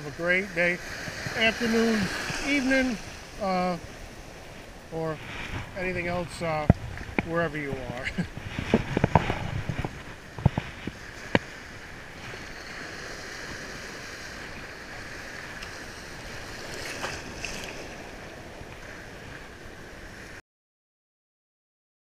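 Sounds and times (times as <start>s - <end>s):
ocean surf washing: 0.0s - 20.4s
wind on microphone: 0.0s - 20.4s.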